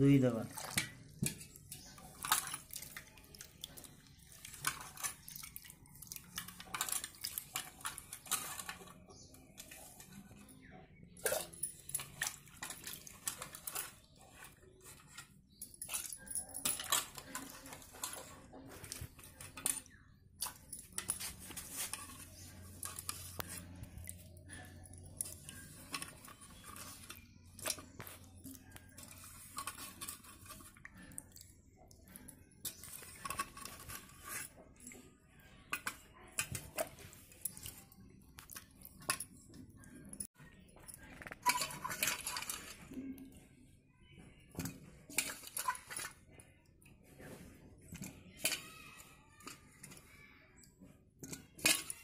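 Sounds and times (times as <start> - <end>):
grapes clinking against metal pot: 0.0 - 43.4, 44.5 - 46.4, 47.8 - 50.1, 51.2 - 52.0.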